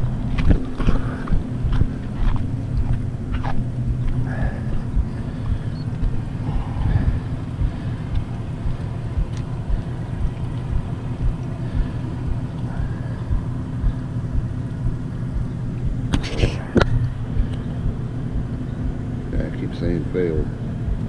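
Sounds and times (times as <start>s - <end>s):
low engine drone: 0.0s - 21.0s
wind buffeting microphone: 0.0s - 21.0s.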